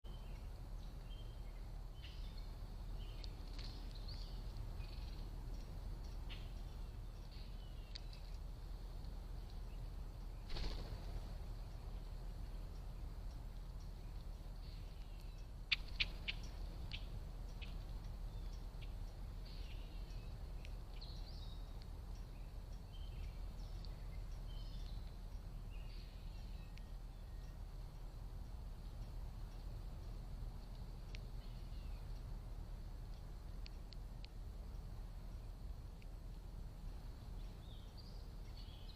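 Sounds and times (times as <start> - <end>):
small birds chirping: 0.0 - 38.9
steady low rumble: 0.0 - 38.9.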